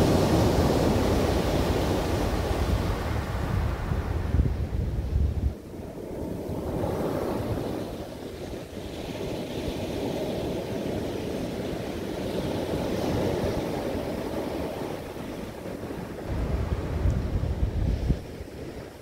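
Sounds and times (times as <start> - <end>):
waves washing on pebble beach: 0.0 - 4.2, 5.8 - 19.0
wind rumble on microphone: 0.0 - 19.0.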